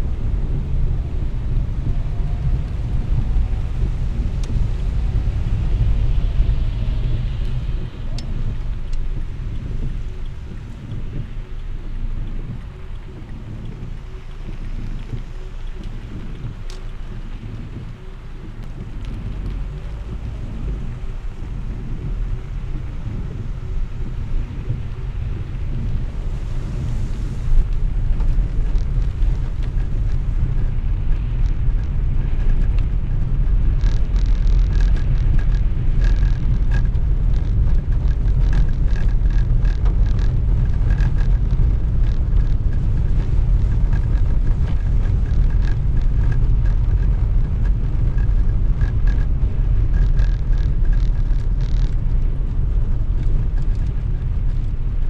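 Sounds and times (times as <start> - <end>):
tyre and road rumble: 0.0 - 55.0.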